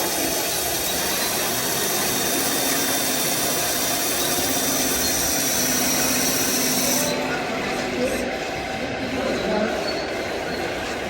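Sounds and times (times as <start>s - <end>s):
small motor running: 0.0s - 11.0s.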